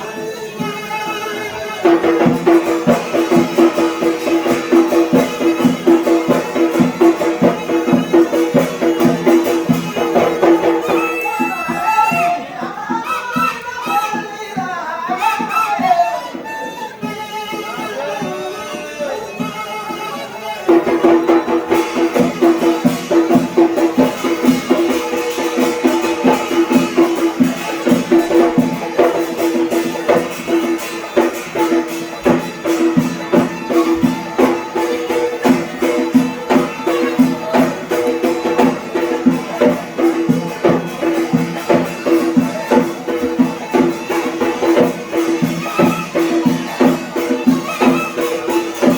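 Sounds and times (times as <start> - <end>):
reed pipe playing a tune: 0.0 - 48.9
fast drum beat: 1.8 - 13.4, 20.7 - 48.9.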